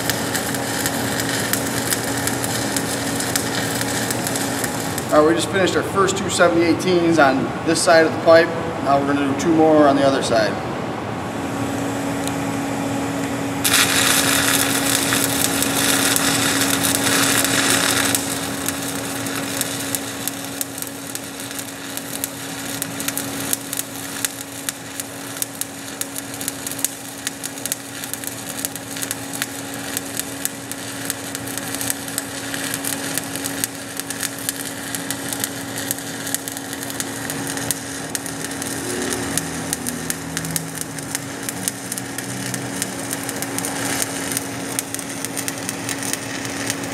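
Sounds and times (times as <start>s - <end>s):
welding arc crackling and popping: 0.0s - 6.7s, 13.2s - 46.9s
steady low hum: 0.0s - 46.9s.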